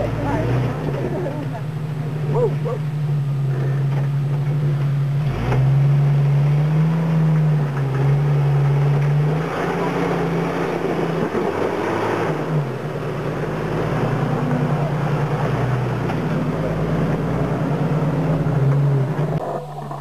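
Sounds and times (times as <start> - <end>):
engine running under load: 0.0 - 20.0.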